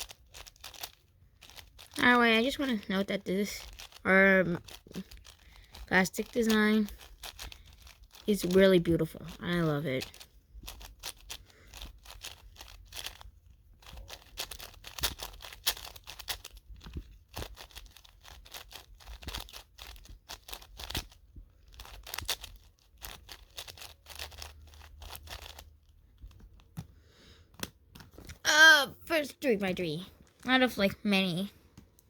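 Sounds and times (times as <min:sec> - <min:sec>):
plastic puzzle cube clicking: 0:00.0 - 0:02.8, 0:03.4 - 0:26.9, 0:27.5 - 0:28.4.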